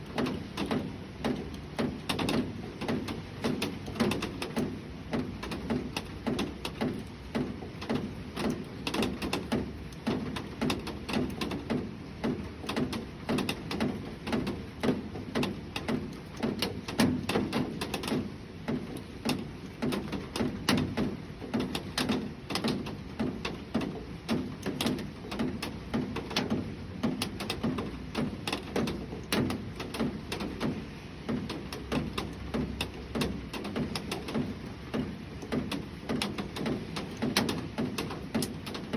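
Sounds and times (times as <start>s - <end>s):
rain on a hard surface: 0.0s - 38.9s.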